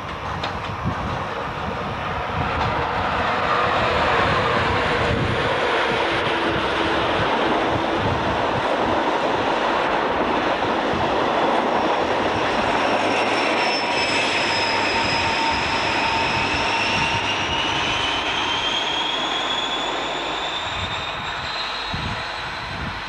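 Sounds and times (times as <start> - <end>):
rising train whine: 0.0 - 23.0
train wheels rumbling: 0.0 - 23.0.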